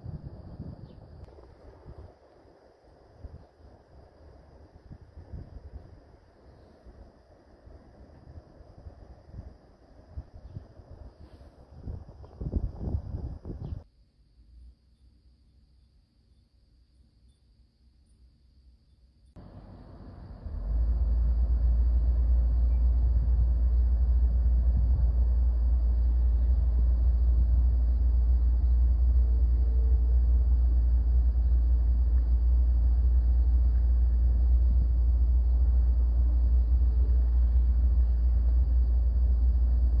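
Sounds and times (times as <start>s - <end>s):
wind rumbling on microphone: 0.0s - 13.8s, 19.4s - 40.0s.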